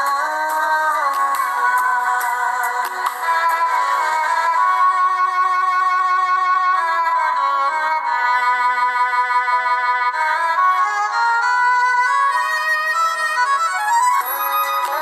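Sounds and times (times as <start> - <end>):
song with long held notes: 0.0 - 15.0.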